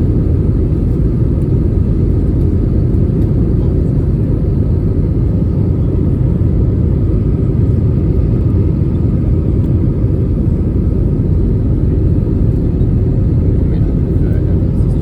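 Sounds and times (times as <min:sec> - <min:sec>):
airplane cabin rumble in flight: 0:00.0 - 0:15.0.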